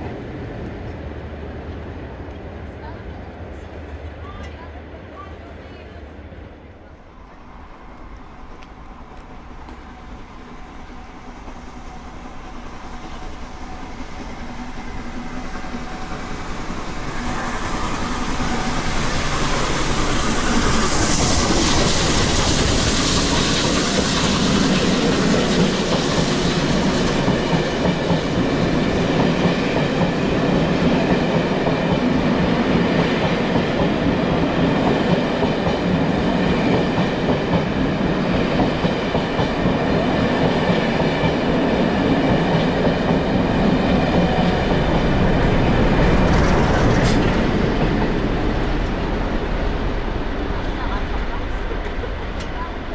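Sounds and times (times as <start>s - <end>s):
steam train passing: 0.0s - 52.9s.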